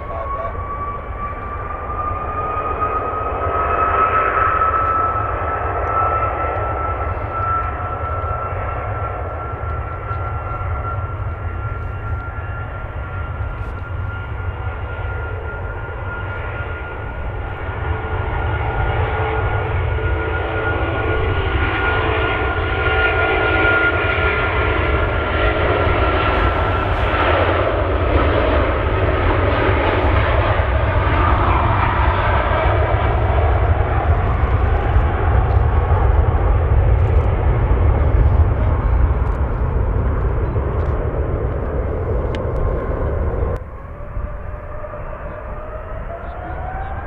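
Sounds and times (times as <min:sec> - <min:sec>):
jet engines whining and rumbling: 0:00.0 - 0:47.0.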